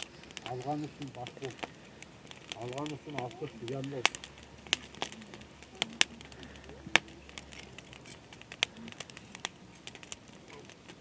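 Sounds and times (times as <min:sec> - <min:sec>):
sharp crackles and snaps: 0:00.0 - 0:11.0.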